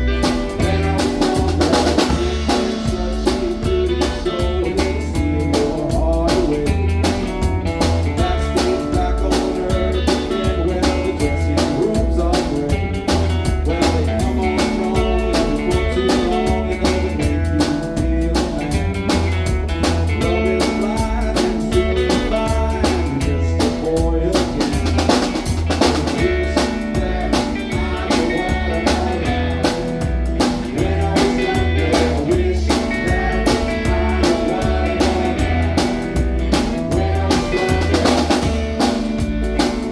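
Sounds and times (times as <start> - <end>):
blues band playing: 0.0 - 39.9
drums keeping a steady beat: 0.0 - 39.9
pulsing bass line: 0.0 - 39.9.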